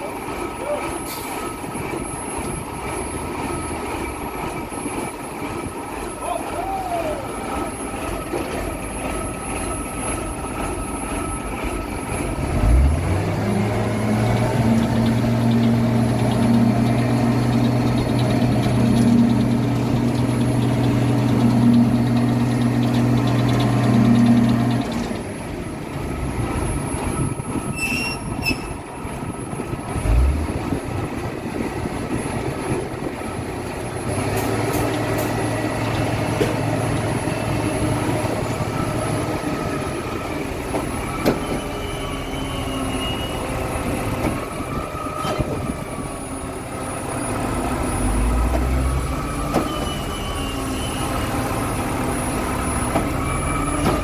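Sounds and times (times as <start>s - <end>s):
heavy diesel engine revving: 0.0s - 27.4s, 29.0s - 54.0s
construction site noise: 0.0s - 54.0s.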